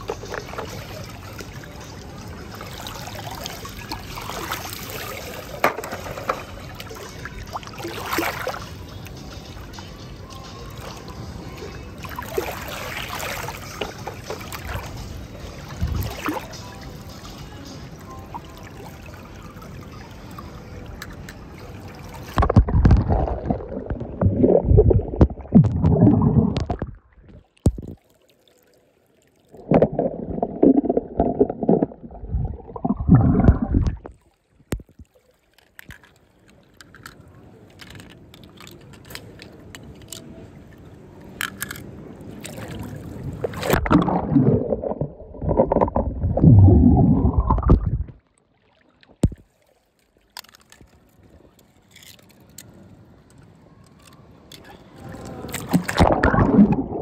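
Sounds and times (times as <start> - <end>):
water splashing and gurgling: 0.0 - 9.7, 11.6 - 16.8, 18.2 - 37.1, 41.6 - 52.7, 54.0 - 57.0.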